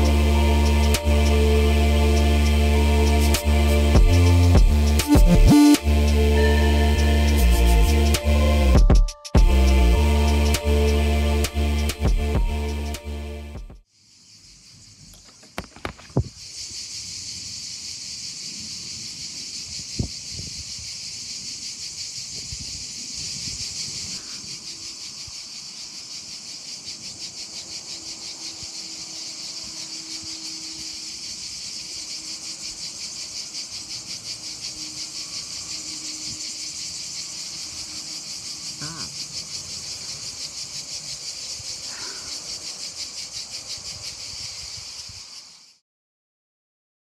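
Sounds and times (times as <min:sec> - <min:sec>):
cicadas buzzing: 0:00.0 - 0:08.7, 0:09.5 - 0:13.2, 0:13.8 - 0:45.8.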